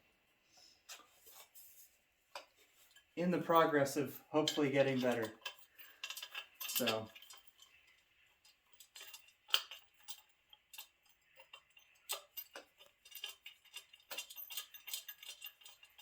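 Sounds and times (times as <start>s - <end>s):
light metallic clicks and clinks: 2.3s - 16.0s.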